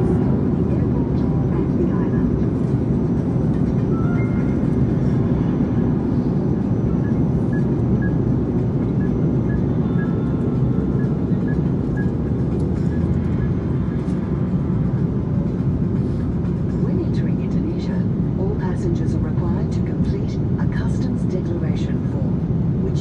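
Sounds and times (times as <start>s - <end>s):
airliner cabin roar: 0.0s - 23.0s.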